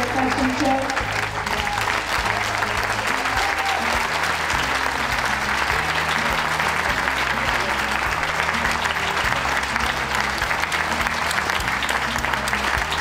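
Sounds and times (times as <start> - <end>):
crowd applauding: 0.0 - 13.0
music with bass line: 0.0 - 13.0.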